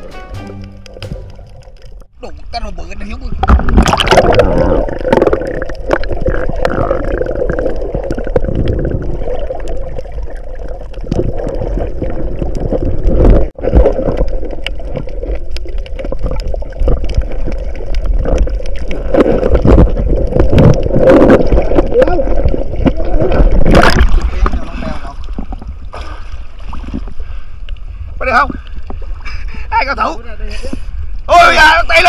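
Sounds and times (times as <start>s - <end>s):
water sloshing and gurgling: 0.0s - 31.3s.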